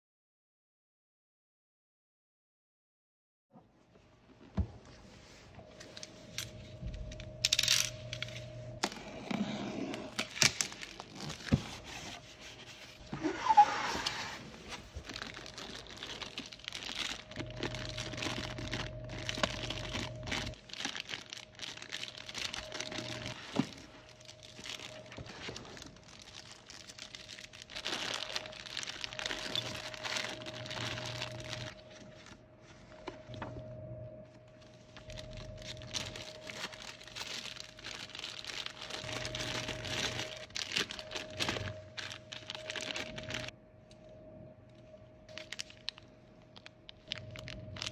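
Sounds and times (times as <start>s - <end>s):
faint steady hum: 3.7s - 47.9s
packaging rustling and crinkling: 5.0s - 33.6s, 34.5s - 43.5s, 45.3s - 47.9s.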